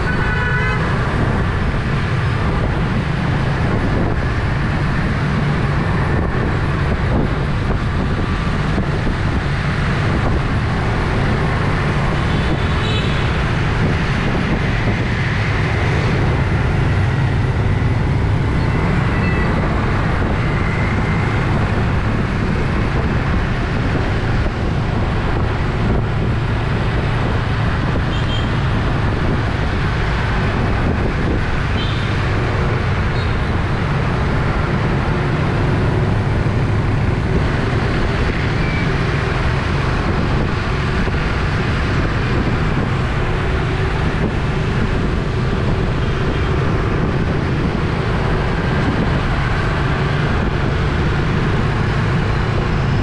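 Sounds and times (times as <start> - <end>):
road noise: 0.0 - 53.0
wind on microphone: 0.0 - 53.0.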